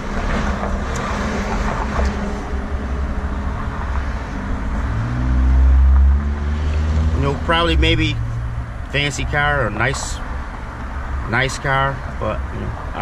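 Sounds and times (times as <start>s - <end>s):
engine hum: 0.0s - 13.0s
road traffic rumble: 0.0s - 13.0s.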